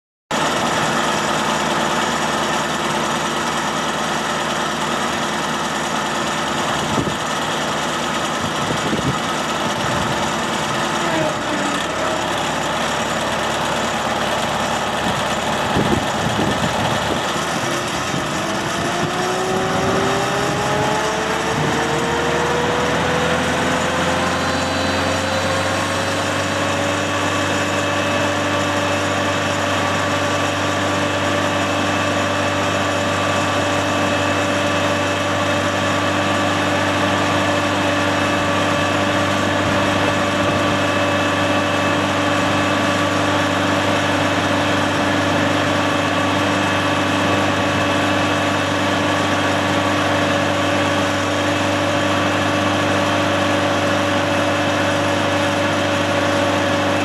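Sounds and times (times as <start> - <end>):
stump grinder engine running: 0.3 - 57.0.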